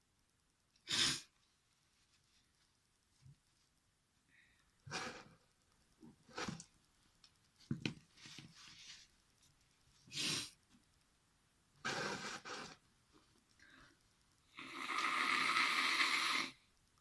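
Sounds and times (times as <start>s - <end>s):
quiet breaths: 0.7s - 11.0s, 11.7s - 17.0s.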